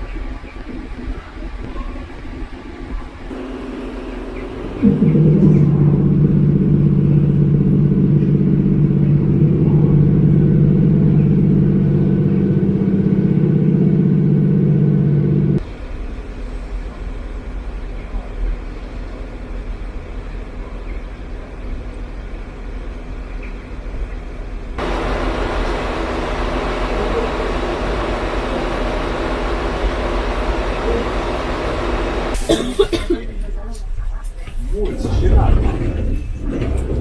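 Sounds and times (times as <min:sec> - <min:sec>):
low rumble of moving train: 0:00.0 - 0:37.0
train diesel engine running: 0:03.1 - 0:33.1, 0:34.7 - 0:37.0.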